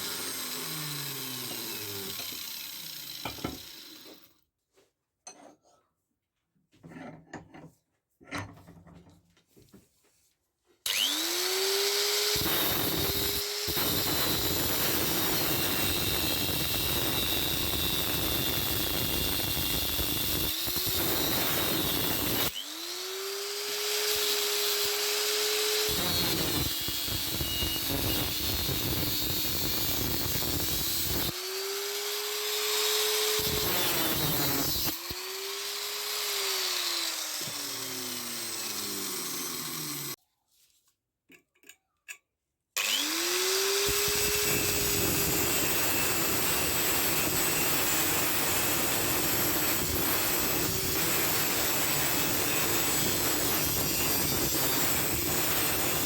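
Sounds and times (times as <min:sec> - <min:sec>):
power tool motor whine: 0:00.0 - 0:04.3, 0:10.9 - 0:40.2, 0:42.8 - 0:56.0
power tool rasping: 0:00.0 - 0:04.3, 0:10.9 - 0:40.2, 0:42.8 - 0:56.0.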